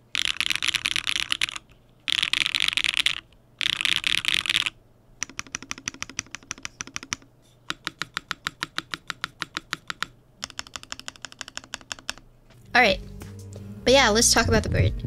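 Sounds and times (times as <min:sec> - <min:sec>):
typing on mechanical keyboard: 0:00.1 - 0:12.2.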